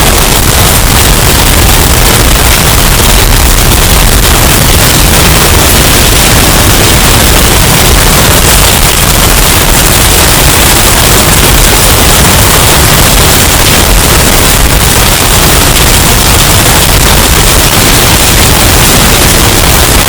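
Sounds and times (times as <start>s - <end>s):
distorted wind roar: 0.0s - 20.0s.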